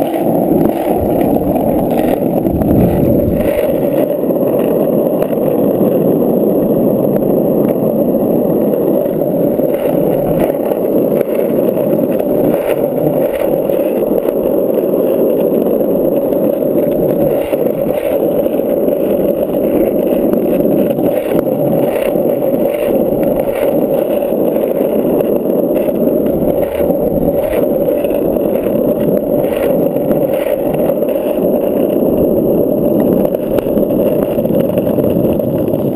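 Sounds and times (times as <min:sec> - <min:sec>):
skateboard clicks and knocks: 0:00.0 - 0:35.9
skateboard wheels rolling on asphalt: 0:00.0 - 0:35.9.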